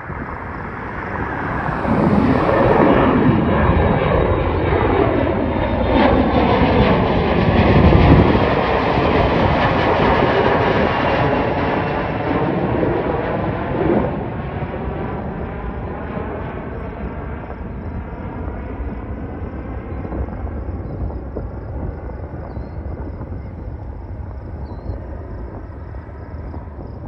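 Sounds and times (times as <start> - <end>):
jet airliner climbing overhead: 0.0 - 27.0.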